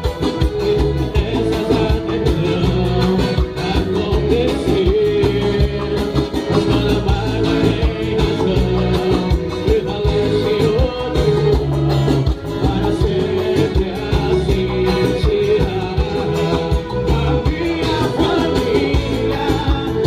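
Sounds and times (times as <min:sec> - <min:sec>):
live latin band music: 0:00.0 - 0:20.0
person singing: 0:00.6 - 0:20.0.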